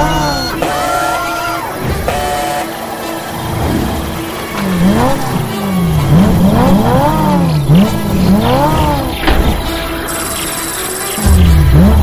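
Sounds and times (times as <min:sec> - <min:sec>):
cartoon car engine revving: 0:00.0 - 0:12.0.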